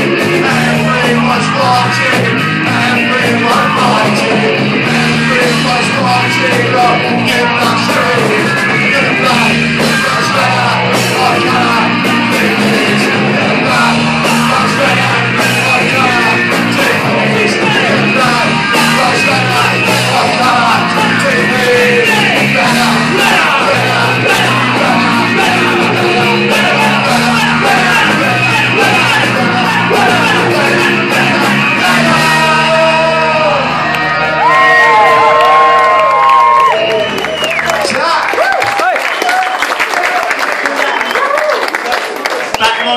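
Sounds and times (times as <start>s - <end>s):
electric guitar: 0.0s - 37.8s
bass guitar: 0.0s - 38.5s
drums: 0.0s - 41.7s.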